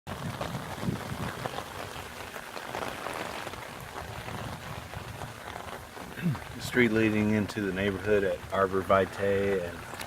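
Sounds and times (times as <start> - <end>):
steady rain falling: 0.1 - 10.0.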